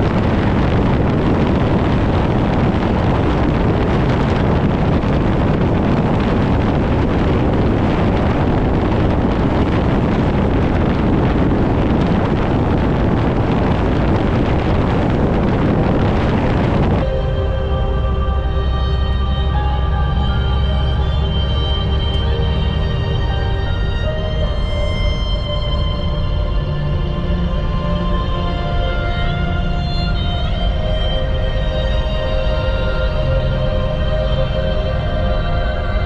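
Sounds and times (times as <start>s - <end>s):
vehicle rumbling: 0.0s - 36.0s
wind buffeting microphone: 0.0s - 36.0s.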